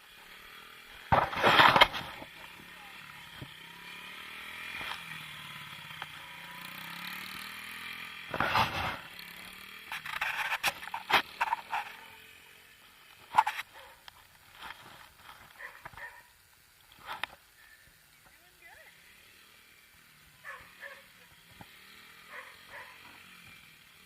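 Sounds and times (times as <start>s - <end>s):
small motorcycle engine running: 0.0s - 24.0s.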